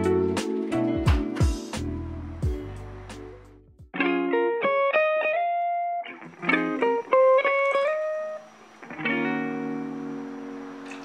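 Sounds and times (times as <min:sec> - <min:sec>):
plucked-string melody: 0:00.0 - 0:11.0.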